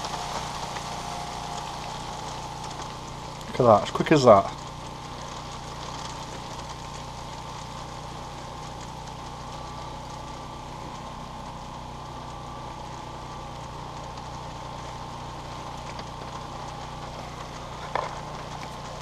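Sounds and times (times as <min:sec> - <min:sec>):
generator engine humming: 0:00.0 - 0:19.0
heavy rain falling: 0:00.0 - 0:19.0.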